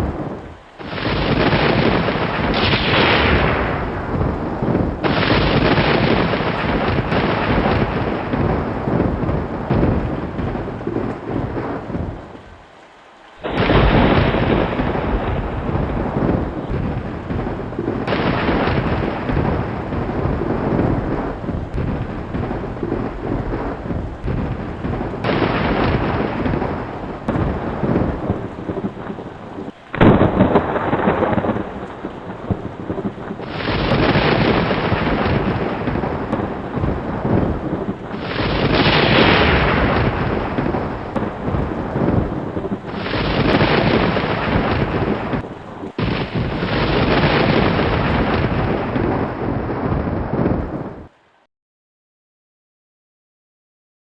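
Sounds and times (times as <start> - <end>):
loud thunder clap: 0.0 - 12.2, 13.4 - 29.0, 30.0 - 50.3
thunder rolling and rumbling: 0.0 - 12.4, 13.4 - 51.0
steady rain: 0.0 - 51.5.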